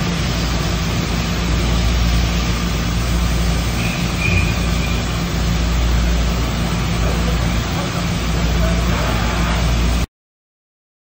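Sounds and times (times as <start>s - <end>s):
machining center humming: 0.0s - 10.1s
short high whine: 0.0s - 10.1s.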